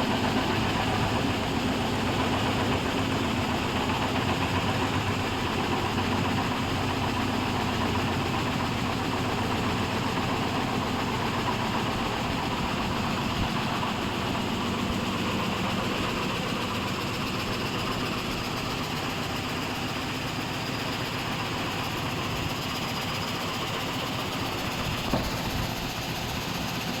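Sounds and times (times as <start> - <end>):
frame saw machine running: 0.0 - 27.0.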